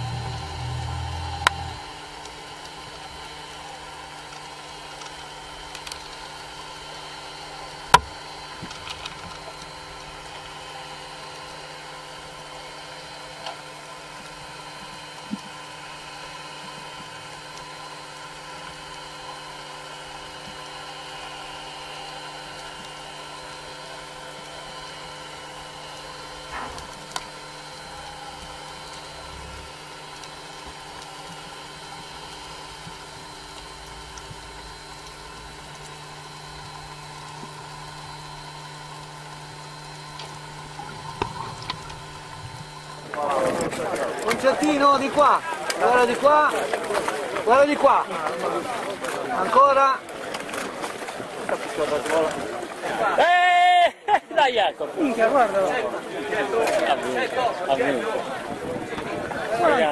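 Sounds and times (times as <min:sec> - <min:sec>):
faint constant hum: 0:00.0 - 0:59.9.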